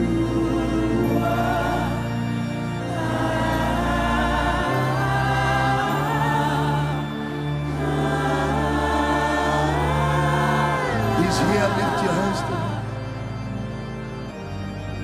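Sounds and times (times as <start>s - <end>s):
voices singing held notes: 0.0s - 13.3s
sustained chords: 0.0s - 15.0s.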